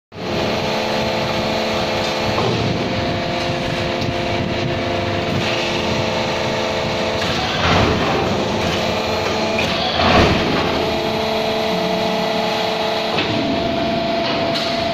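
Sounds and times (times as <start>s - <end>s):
block making machine humming: 0.2s - 14.9s.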